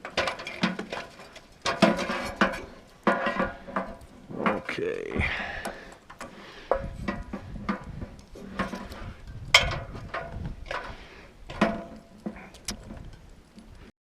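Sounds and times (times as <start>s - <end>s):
metallic clanks against steel tower: 0.0s - 4.8s, 5.6s - 13.8s.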